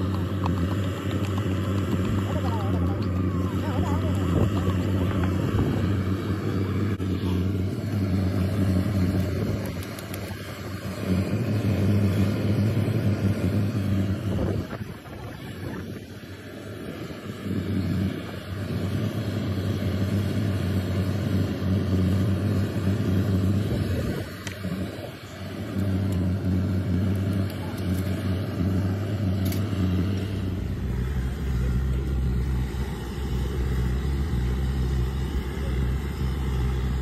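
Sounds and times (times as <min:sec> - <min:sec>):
low motor hum: 0:00.0 - 0:37.0.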